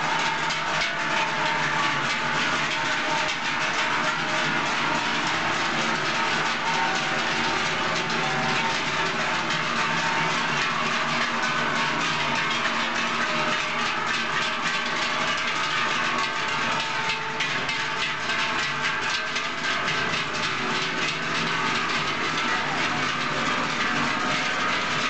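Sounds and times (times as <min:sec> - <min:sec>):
cowbells clanging: 0:00.0 - 0:25.0.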